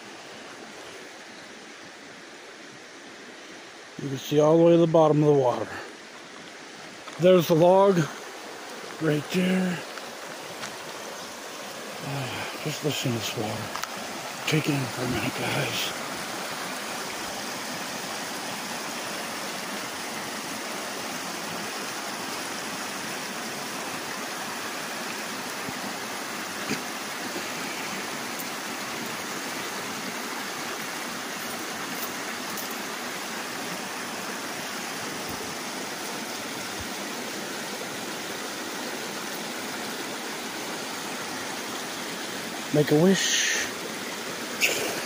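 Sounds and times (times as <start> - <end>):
creek water flowing over stones: 0.0 - 45.0.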